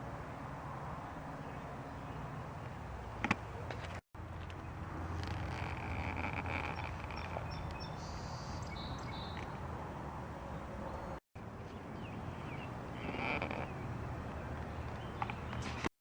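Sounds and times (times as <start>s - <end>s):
traffic rumble: 0.0s - 15.9s
wind: 0.0s - 15.9s.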